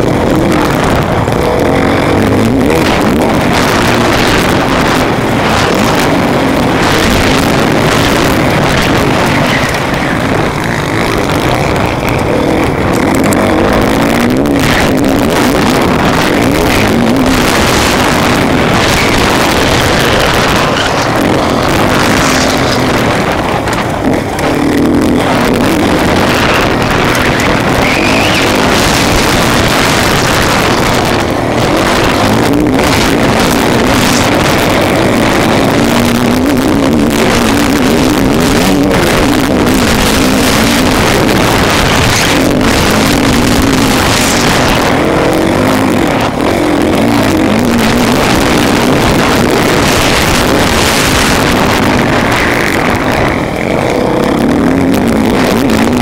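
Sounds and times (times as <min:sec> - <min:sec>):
motocross bike engine: 0:00.0 - 0:56.0
wind rushing past microphone: 0:00.0 - 0:56.0.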